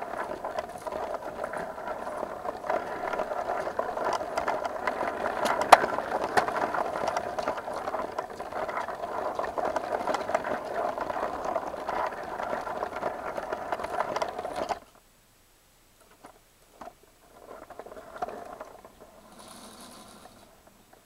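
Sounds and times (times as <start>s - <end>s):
toy train clattering on track: 0.0s - 14.9s, 16.1s - 21.0s.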